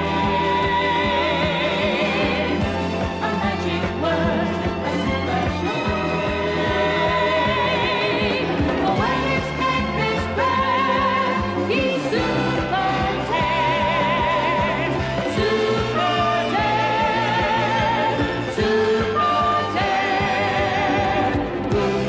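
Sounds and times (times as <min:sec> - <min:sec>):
cartoon theme music: 0:00.0 - 0:22.0.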